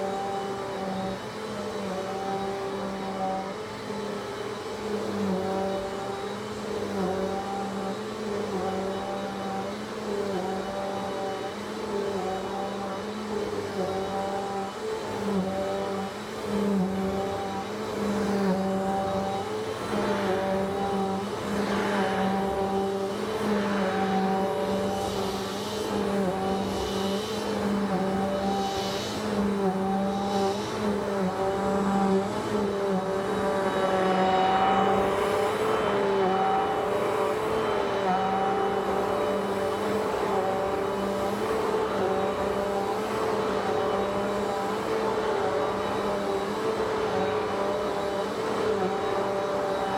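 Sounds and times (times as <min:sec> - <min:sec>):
vacuum cleaner motor running: 0:00.0 - 0:49.9.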